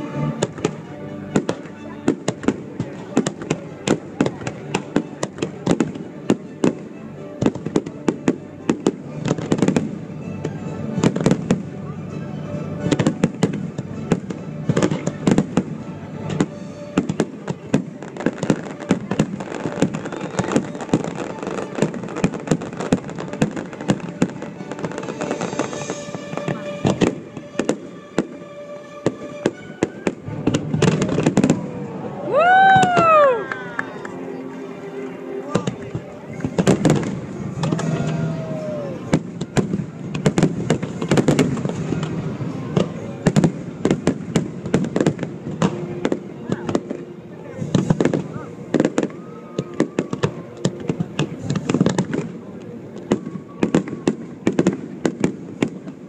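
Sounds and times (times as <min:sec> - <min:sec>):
fireworks bangs: 0:00.3 - 0:06.8, 0:07.4 - 0:11.8, 0:12.8 - 0:33.9, 0:35.5 - 0:56.0.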